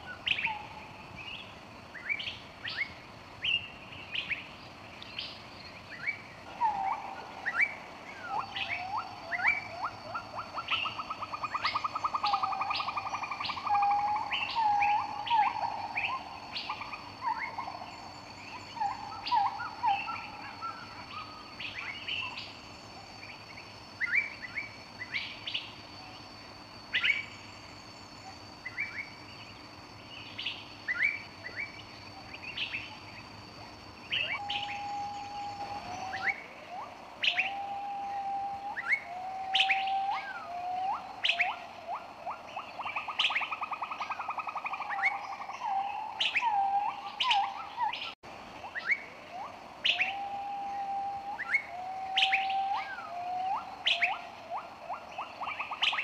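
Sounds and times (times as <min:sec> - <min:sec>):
birds chirping: 0:00.0 - 0:56.0
bird whistled song with trill: 0:05.1 - 0:26.2, 0:30.1 - 0:33.2, 0:34.0 - 0:56.0.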